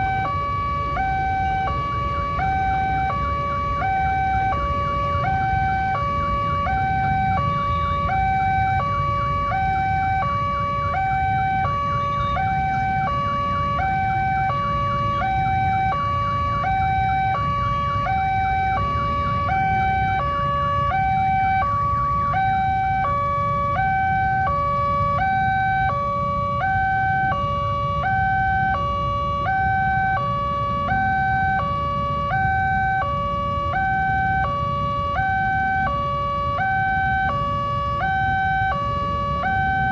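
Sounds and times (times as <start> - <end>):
level crossing warning siren: 0.0 - 39.9.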